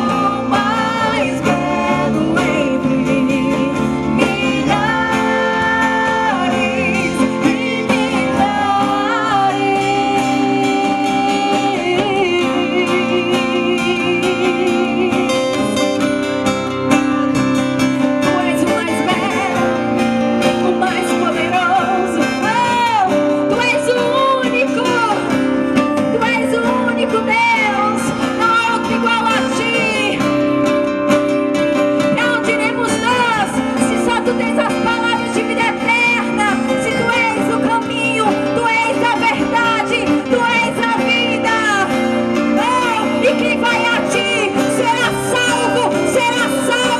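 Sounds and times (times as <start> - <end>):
person singing: 0.0 - 16.4, 17.1 - 46.9
held chords with guitar: 0.0 - 46.9.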